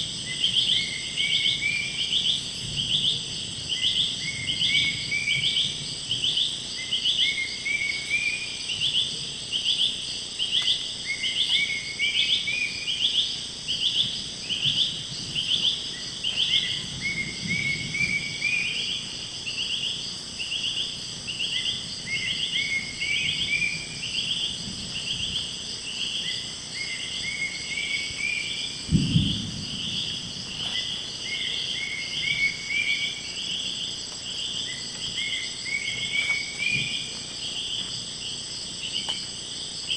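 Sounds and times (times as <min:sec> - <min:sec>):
high insect whine: 0:00.0 - 0:39.9
pulsed insect chirping: 0:00.0 - 0:39.9.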